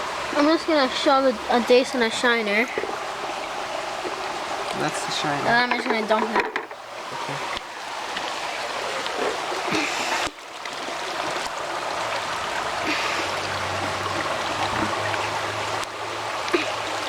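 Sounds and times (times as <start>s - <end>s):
mountain creek rushing: 0.0s - 17.0s.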